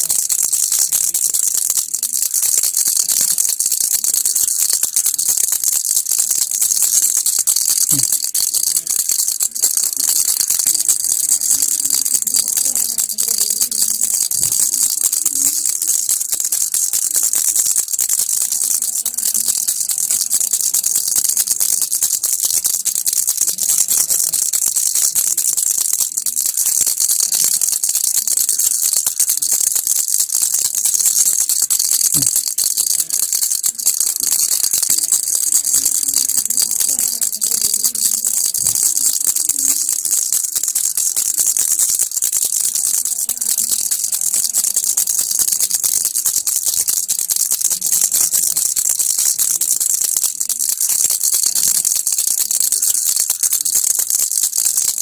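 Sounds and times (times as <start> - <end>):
baby rattle shaken: 0.0 - 55.0.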